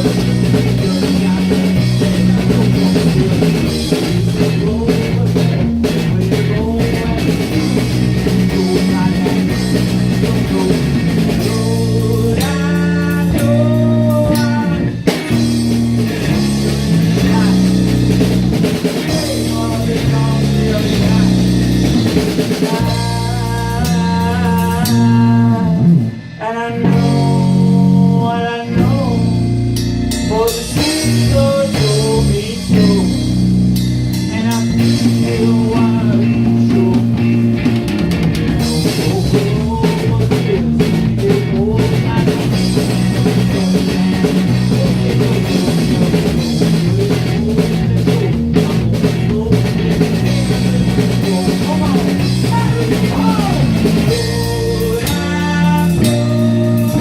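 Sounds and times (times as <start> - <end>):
electric guitar lead lines: 0.0 - 57.0
live rock band playing: 0.0 - 57.0.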